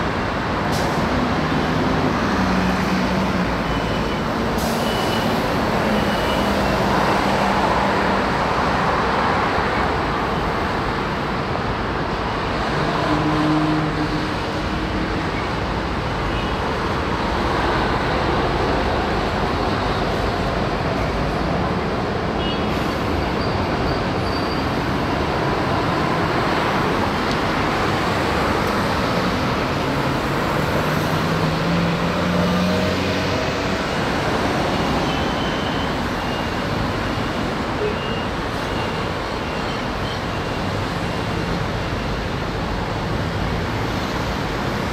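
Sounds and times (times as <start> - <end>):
city road traffic: 0.0 - 44.9.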